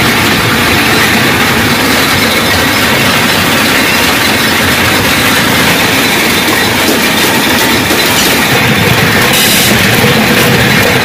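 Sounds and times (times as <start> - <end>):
belt-driven roller machine running: 0.0 - 11.0.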